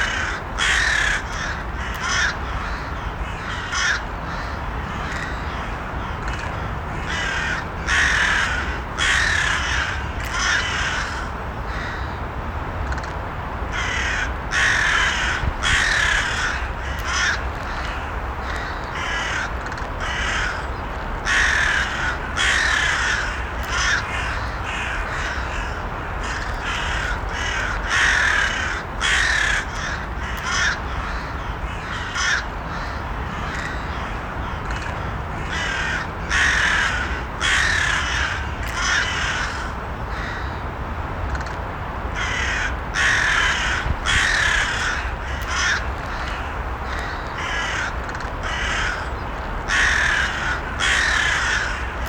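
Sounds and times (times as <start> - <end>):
crows cawing: 0.0 - 12.2, 13.7 - 40.6, 42.1 - 52.0.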